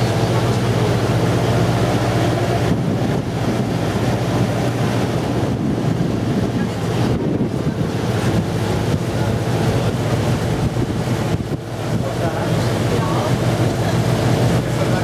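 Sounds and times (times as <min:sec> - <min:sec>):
boat engine droning: 0:00.0 - 0:15.0
water rushing past hull: 0:00.0 - 0:15.0
wind buffeting microphone: 0:00.0 - 0:15.0.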